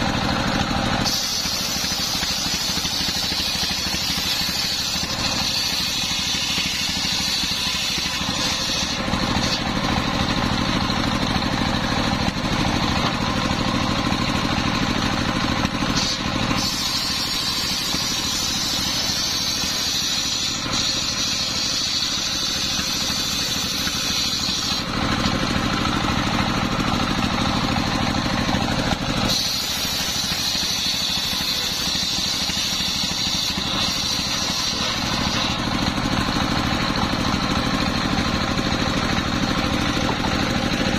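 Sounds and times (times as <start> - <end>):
circular saw cutting log: 0.0 - 40.9.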